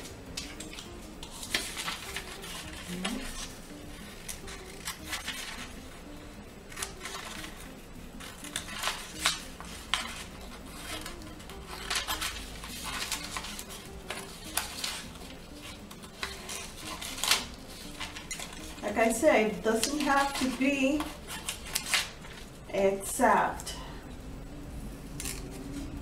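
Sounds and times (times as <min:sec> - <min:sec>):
paper rustling: 0:00.0 - 0:06.0, 0:06.6 - 0:22.5
scissors snipping paper: 0:00.3 - 0:05.8, 0:06.7 - 0:18.9, 0:19.7 - 0:22.4, 0:25.2 - 0:25.9.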